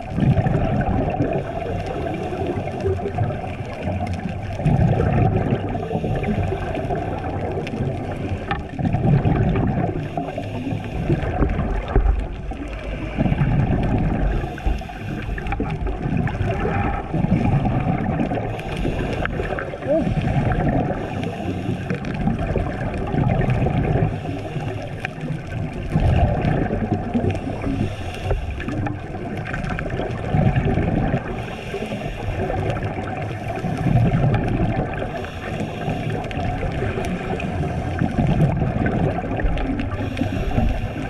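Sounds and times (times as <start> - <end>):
regulator bubbles gurgling underwater: 0.0 - 41.0
steady underwater rumble: 0.0 - 41.0.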